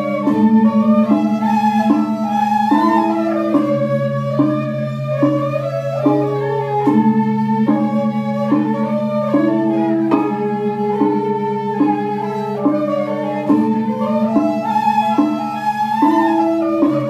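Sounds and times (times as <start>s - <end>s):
bamboo flute melody: 0.0s - 17.0s
flute held low tone: 0.0s - 17.0s.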